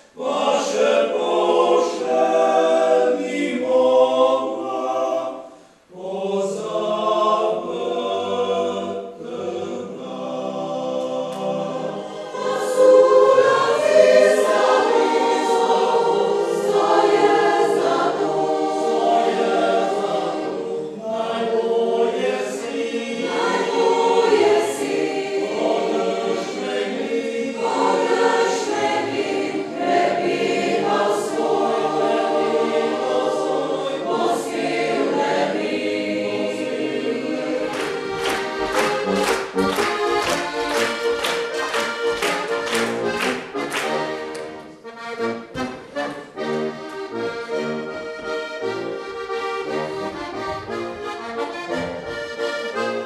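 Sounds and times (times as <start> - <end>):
mixed choir singing: 0.0 - 45.0
accordion folk music: 0.0 - 53.0.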